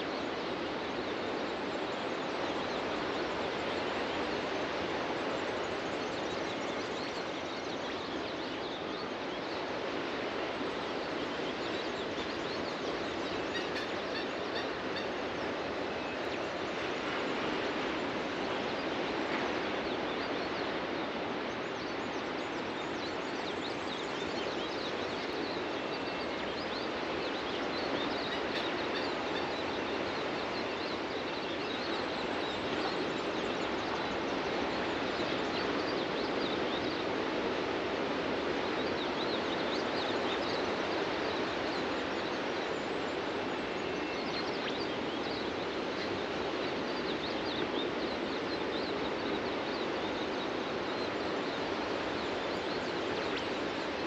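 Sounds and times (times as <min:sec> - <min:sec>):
ocean surf washing onto beach: 0:08.8 - 0:54.0.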